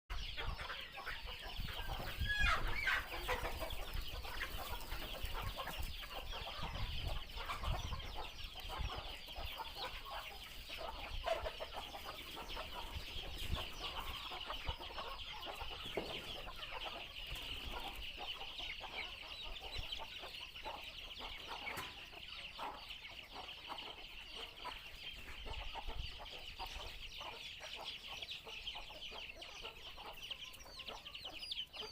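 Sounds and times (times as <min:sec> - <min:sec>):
chickens clucking: 0:00.1 - 0:31.9.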